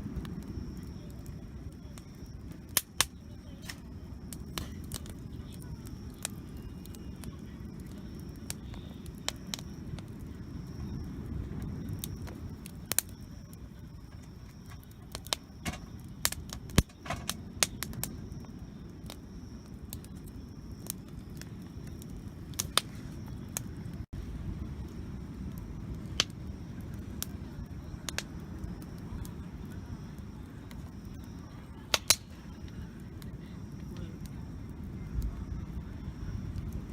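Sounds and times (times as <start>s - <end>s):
campfire crackling and popping: 0.0s - 36.9s
low fire rumble: 0.0s - 36.9s.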